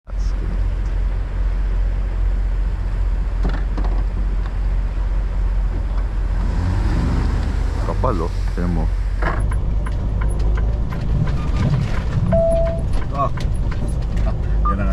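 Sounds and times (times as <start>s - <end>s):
diesel truck engine rumbling: 0.0s - 14.9s.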